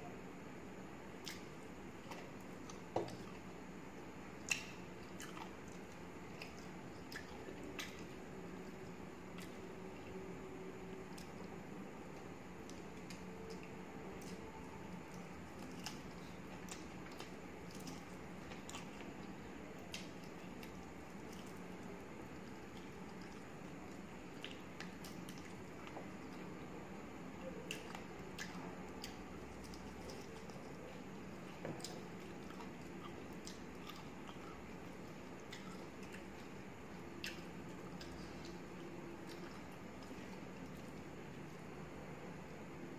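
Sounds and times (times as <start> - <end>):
steady low hum: 0.0 - 42.9
close-up chewing: 1.2 - 10.2, 10.9 - 26.6, 27.4 - 41.6.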